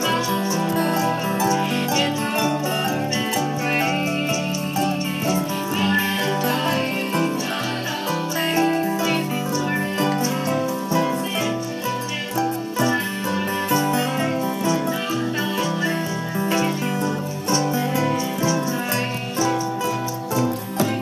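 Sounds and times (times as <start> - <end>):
acoustic folk song strummed strings: 0.0 - 21.0.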